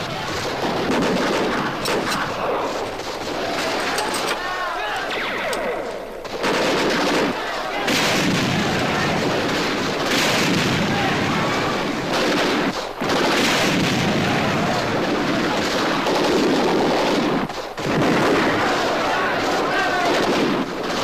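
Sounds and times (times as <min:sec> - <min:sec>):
explosions: 0:00.0 - 0:04.3, 0:05.0 - 0:18.8
gunfire: 0:00.0 - 0:21.0.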